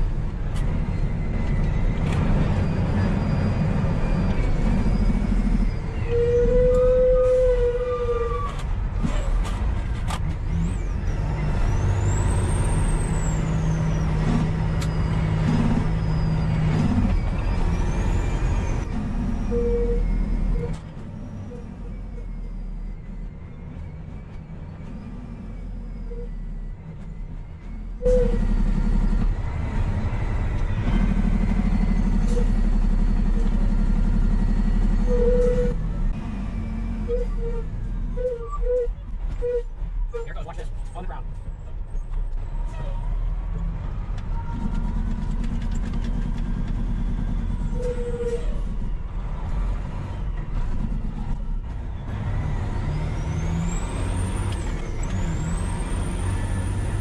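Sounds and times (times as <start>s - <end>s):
heavy truck engine: 0.0s - 57.0s
road rumble: 0.0s - 57.0s.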